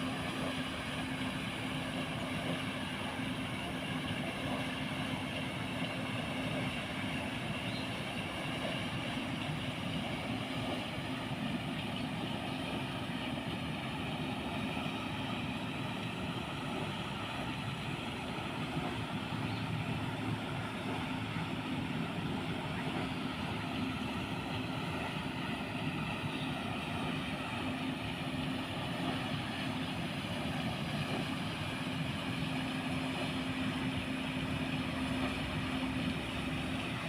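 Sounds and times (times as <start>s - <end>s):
low motor hum: 0.0s - 37.0s
water churning: 0.0s - 37.0s.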